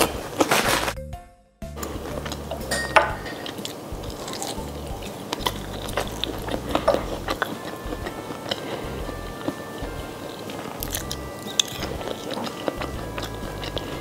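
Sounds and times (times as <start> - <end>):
chewing crisp fried food: 1.8 - 2.7, 3.3 - 14.0.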